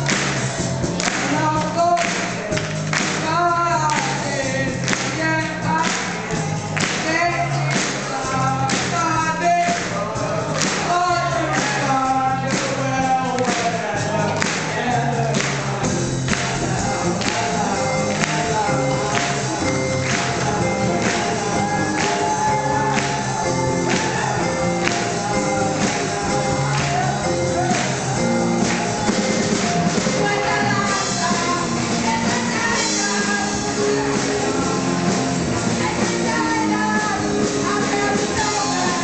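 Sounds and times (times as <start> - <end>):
drum kit beat: 0.0 - 39.0
electric bass and guitar: 0.0 - 39.0
person singing: 1.0 - 39.0.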